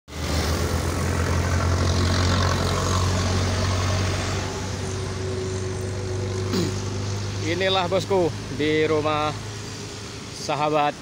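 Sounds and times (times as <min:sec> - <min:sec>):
engine humming: 0:00.1 - 0:10.4.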